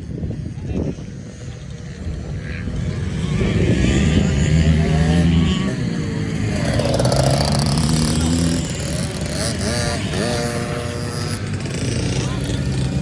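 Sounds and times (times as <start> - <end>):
dirt bike engine running: 1.4 - 13.0.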